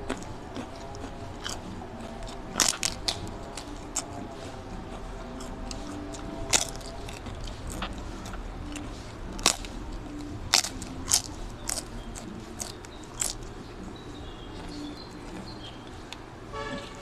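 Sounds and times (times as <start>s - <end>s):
chewing: 0.0s - 17.0s
crunching flatbread: 0.0s - 17.0s.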